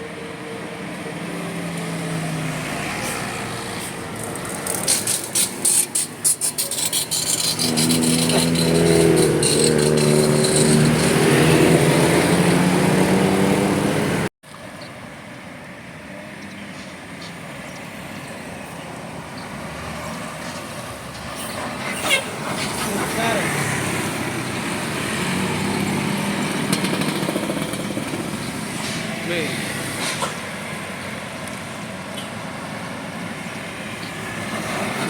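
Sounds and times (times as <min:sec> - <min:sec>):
vehicle engine: 0:00.0 - 0:35.0.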